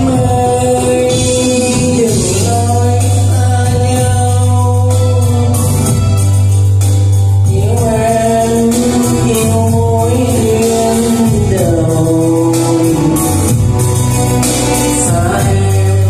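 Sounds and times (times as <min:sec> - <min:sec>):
man singing into microphone: 0:00.0 - 0:06.6, 0:07.4 - 0:16.0
loud backing track: 0:00.0 - 0:16.0.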